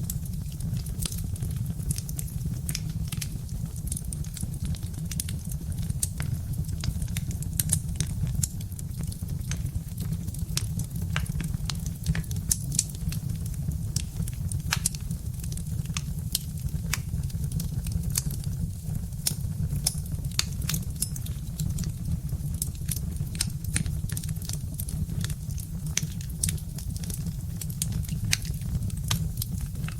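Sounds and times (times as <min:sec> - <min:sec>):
fire crackling and popping: 0:00.0 - 0:29.9
low rumble of fire: 0:00.0 - 0:29.9.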